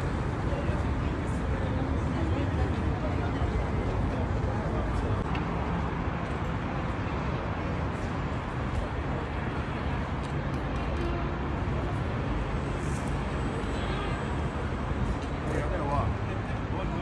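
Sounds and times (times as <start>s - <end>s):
outdoor street noise: 0.0s - 17.0s.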